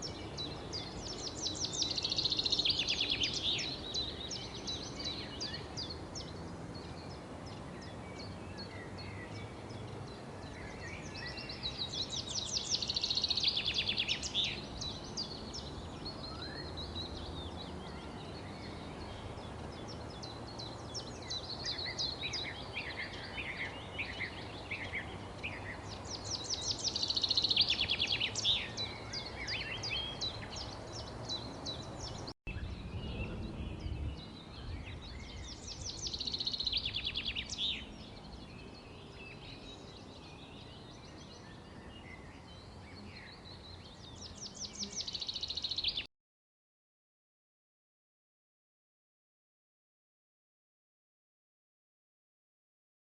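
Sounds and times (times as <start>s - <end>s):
birds chirping and trilling: 0.0s - 46.1s
low background noise: 0.0s - 46.1s.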